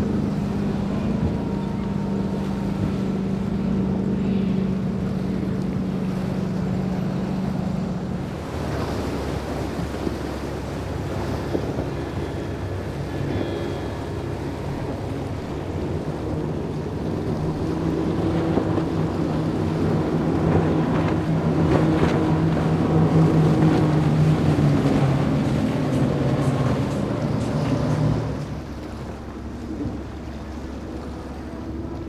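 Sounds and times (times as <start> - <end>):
boat engine drone: 0.0 - 32.0
hull splashing through water: 0.0 - 32.0.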